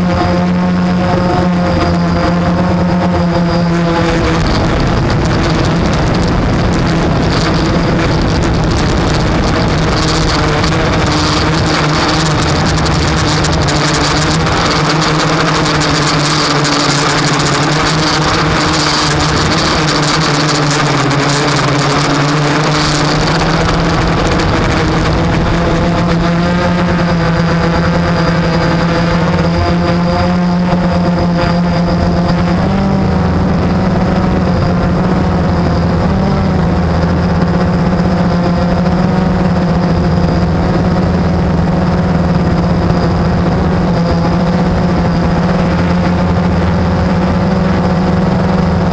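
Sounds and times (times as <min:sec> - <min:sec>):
quadcopter motors humming: 0:00.0 - 0:48.9.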